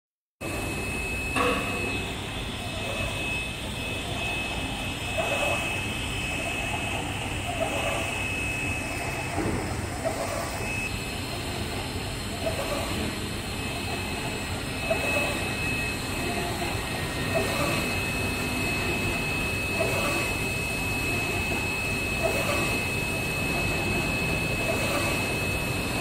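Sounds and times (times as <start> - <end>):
printer mechanical whir: 0.4 - 26.0
thin high whine: 0.4 - 26.0.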